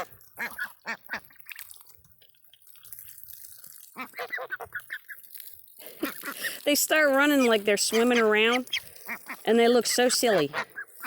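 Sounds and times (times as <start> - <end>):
hose water splashing: 0.0 - 11.0.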